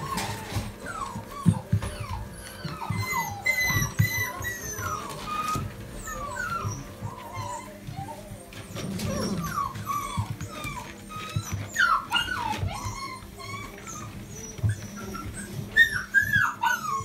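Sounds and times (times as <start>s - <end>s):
puppies whining: 0.0s - 17.0s.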